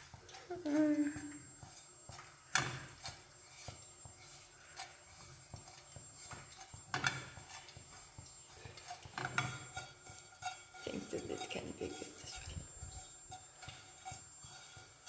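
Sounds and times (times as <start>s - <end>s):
tea leaves rustling in a frying pan: 0.0s - 15.0s.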